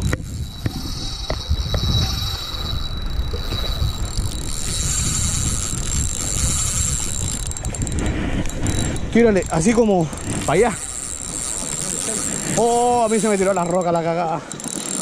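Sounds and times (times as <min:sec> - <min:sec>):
wind rumbling on microphone: 0:00.0 - 0:14.9
fishing reel whine: 0:00.0 - 0:15.0.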